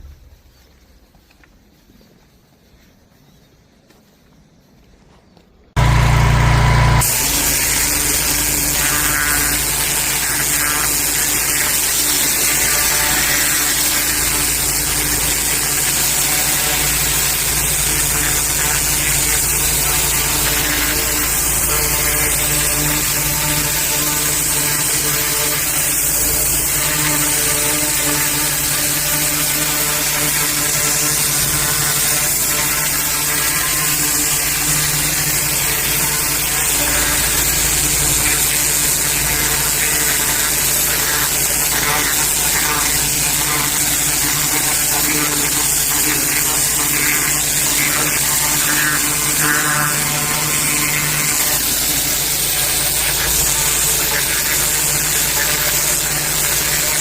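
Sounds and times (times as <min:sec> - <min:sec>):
pressure washer hum: 0:05.7 - 0:57.0
water spraying hiss: 0:05.8 - 0:57.0.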